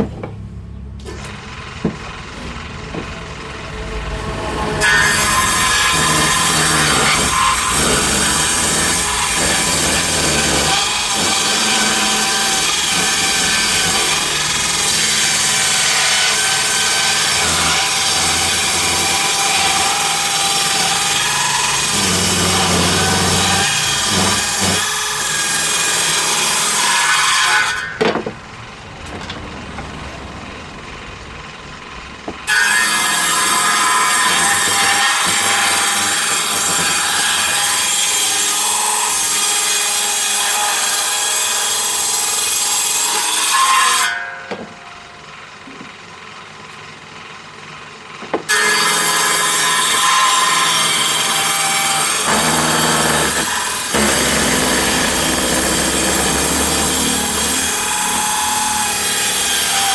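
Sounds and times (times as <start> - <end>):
power saw cutting wood: 1.0 - 28.3, 32.4 - 44.4, 48.4 - 59.9.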